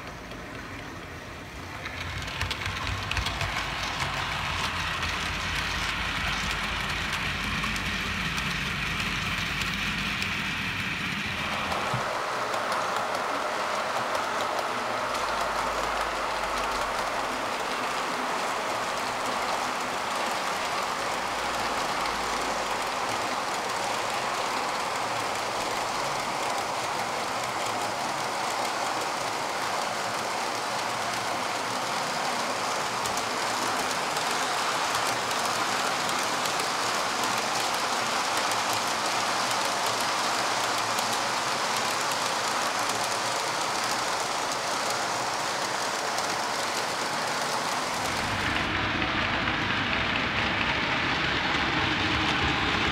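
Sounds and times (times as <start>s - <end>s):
model train wagons rolling on track: 0.0s - 52.9s.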